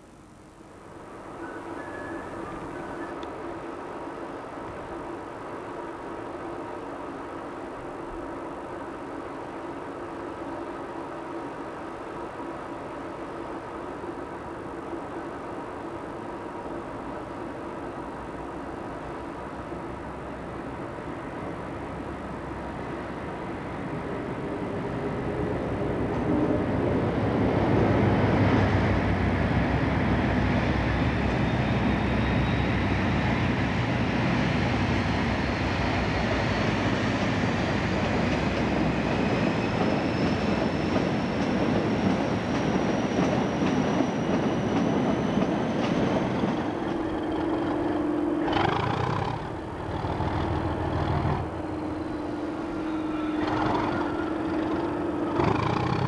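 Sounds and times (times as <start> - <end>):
train wheels rumbling: 7.4 - 56.0.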